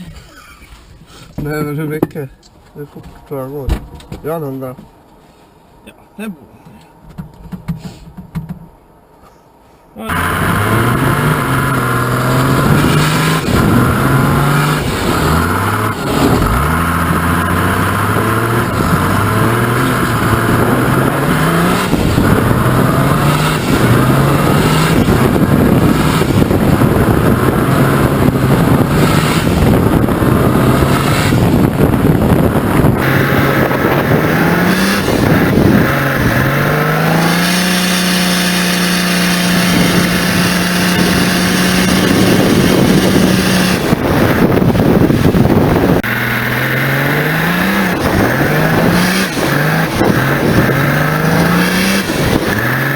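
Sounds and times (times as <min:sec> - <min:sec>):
diesel truck engine revving: 0:10.0 - 0:52.9.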